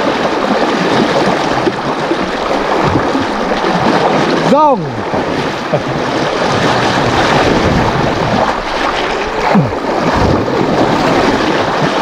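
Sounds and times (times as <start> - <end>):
river rushing over rapids: 0.0 - 12.0
wind buffeting microphone: 0.0 - 12.0.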